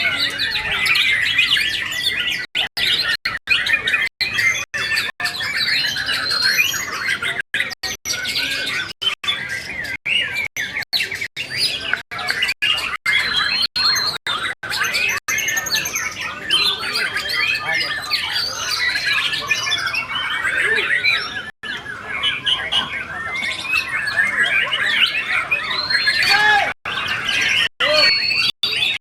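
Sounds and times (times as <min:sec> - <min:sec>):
birds singing whistles and trills: 0:00.0 - 0:29.0.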